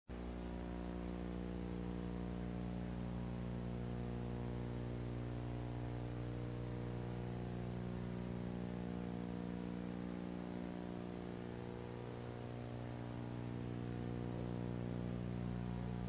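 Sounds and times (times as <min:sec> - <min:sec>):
electrical mains hum: 0:00.1 - 0:16.0
constant hiss: 0:00.2 - 0:16.0.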